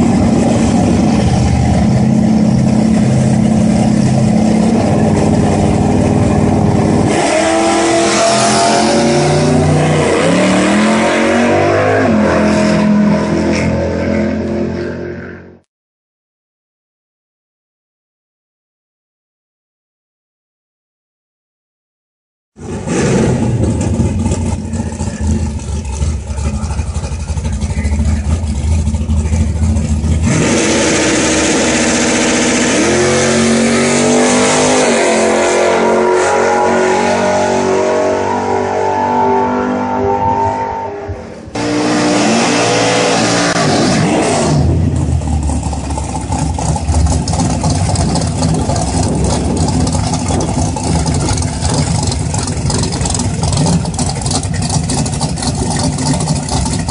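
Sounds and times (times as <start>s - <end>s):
car engine revving: 0.0s - 15.6s, 22.6s - 56.9s.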